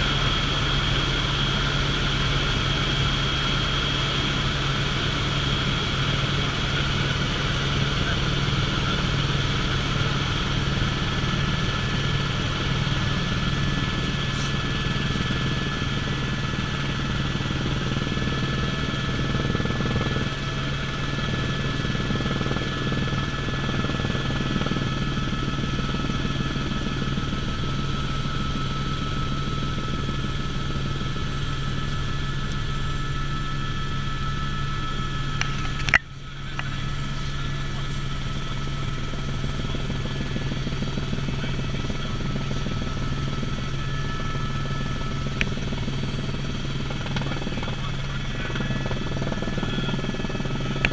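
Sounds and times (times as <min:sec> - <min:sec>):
helicopter rotor and turbine drone: 0:00.0 - 0:50.9
high turbine whine: 0:00.0 - 0:50.9.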